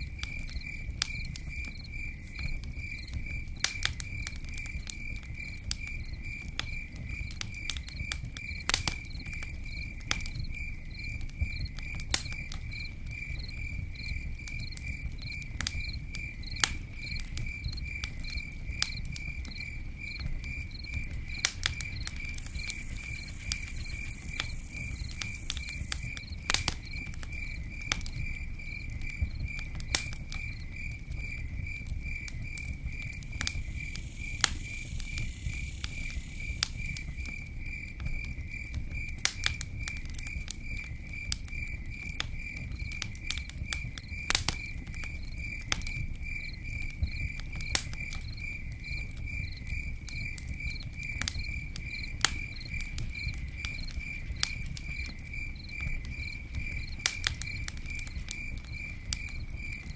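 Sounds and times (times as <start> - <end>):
campfire crackling: 0.0 - 59.9
insect chirping: 0.1 - 59.9.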